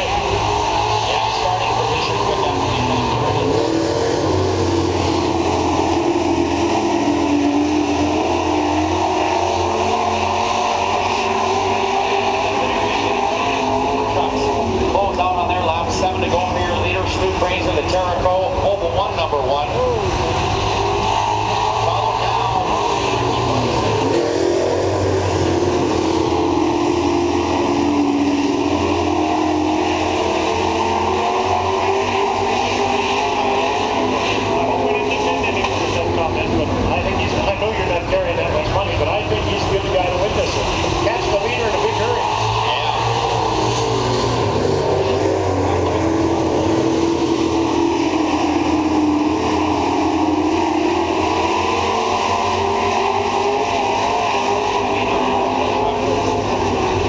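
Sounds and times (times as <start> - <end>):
racing truck engines: 0.0 - 57.0.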